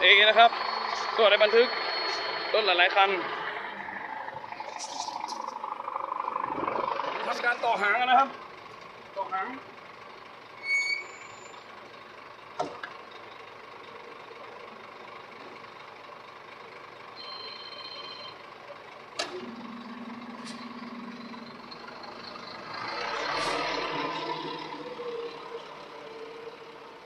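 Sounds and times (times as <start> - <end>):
truck beeping: 0.0 - 27.0.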